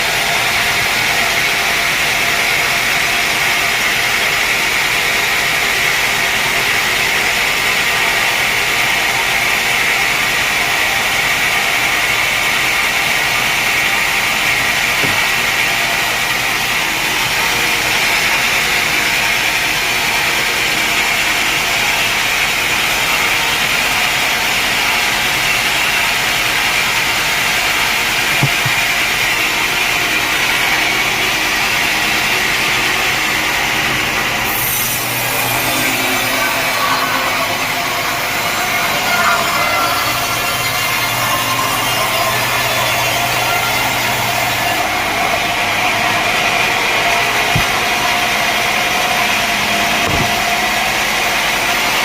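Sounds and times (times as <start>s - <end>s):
saw cutting through log: 0.0s - 52.0s.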